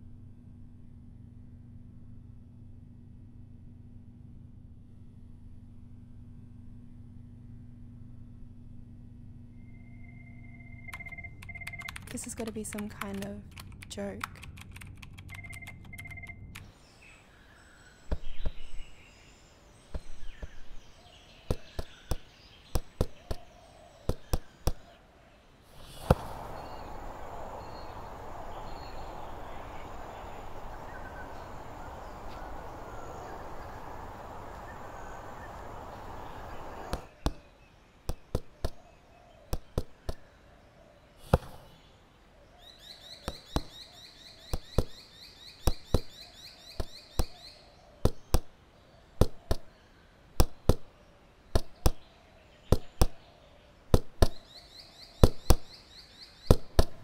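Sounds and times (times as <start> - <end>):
birds chirping: 9.5 - 57.0.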